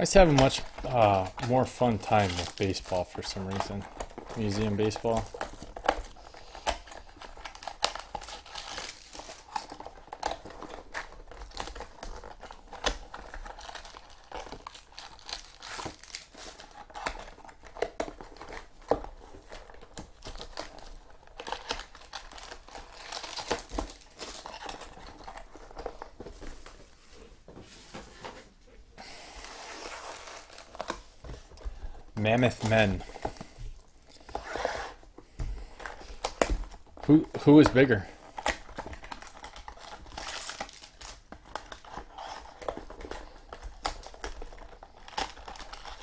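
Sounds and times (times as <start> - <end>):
foil packs crinkling: 0.0 - 27.3, 29.0 - 46.0.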